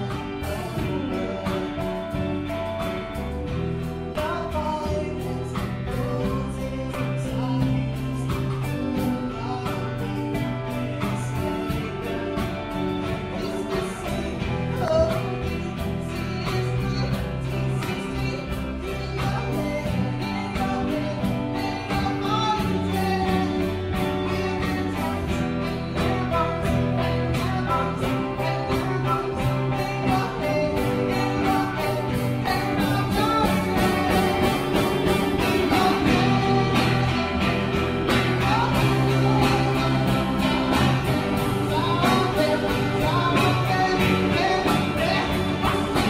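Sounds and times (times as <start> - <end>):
person singing: 0.0 - 46.0
rock guitar with steady beat: 0.0 - 46.0.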